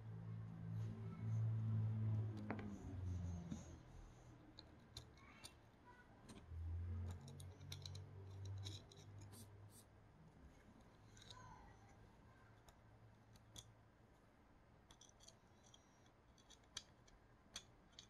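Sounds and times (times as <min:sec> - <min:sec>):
light clicks and taps of parts: 0:00.4 - 0:09.8, 0:10.5 - 0:18.0.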